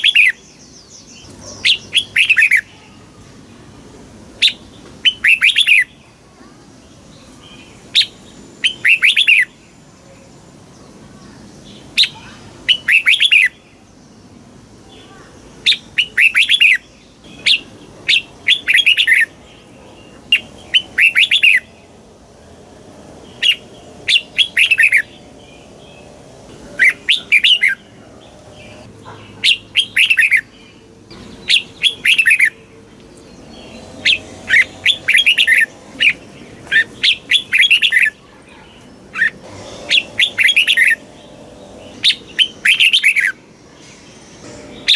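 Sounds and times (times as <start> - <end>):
bulbul chirping song: 0.0 - 2.8, 4.4 - 6.0, 7.6 - 9.6, 11.6 - 13.6, 15.1 - 44.9.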